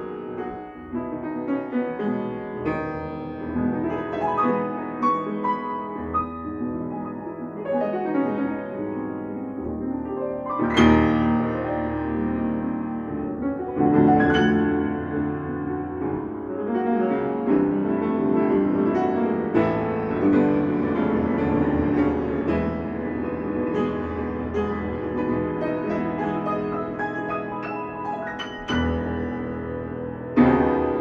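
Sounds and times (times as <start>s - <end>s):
grand piano playing: 0.0s - 31.0s.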